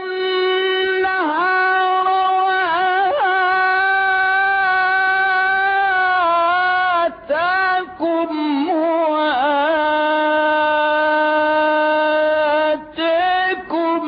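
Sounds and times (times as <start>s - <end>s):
person chanting: 0.0s - 14.0s.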